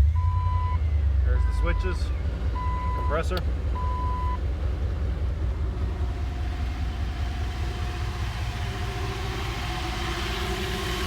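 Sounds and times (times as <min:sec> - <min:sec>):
engine idling with compressor: 0:00.0 - 0:11.0.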